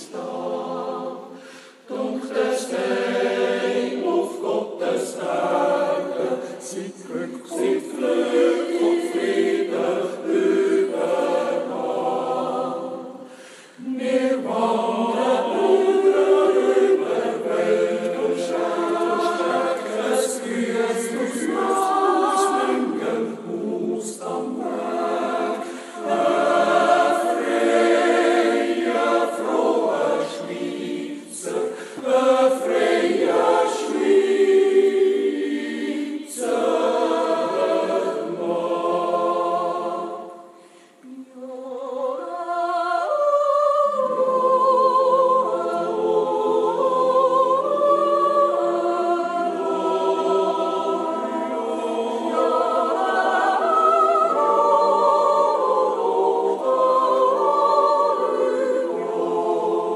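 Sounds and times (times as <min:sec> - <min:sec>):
choir yodelling a cappella: 0:00.0 - 0:59.9.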